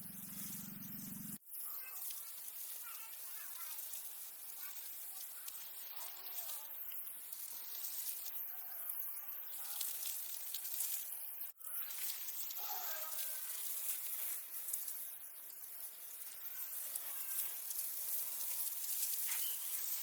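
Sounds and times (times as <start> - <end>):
steady high hiss: 2.8 - 20.0.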